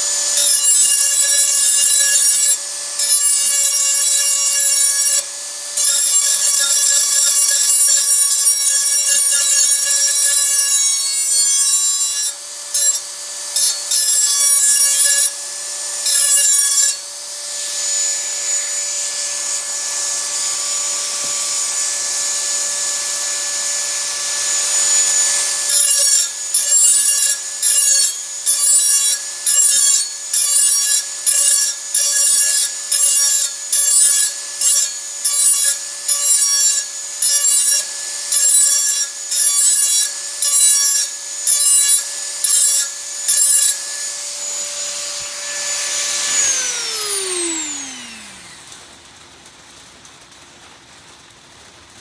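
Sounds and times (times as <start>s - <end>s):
rotary tool grinding metal: 0.0s - 48.7s.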